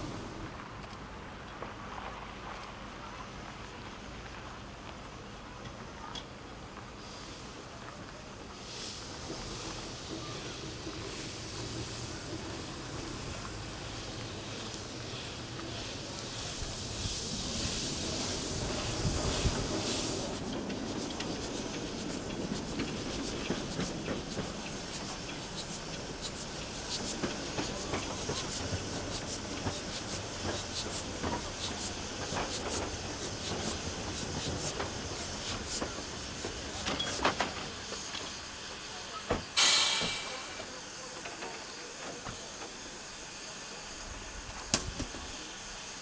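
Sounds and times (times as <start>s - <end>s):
steam locomotive rumbling: 0.0s - 46.0s
steam hiss: 6.7s - 46.0s.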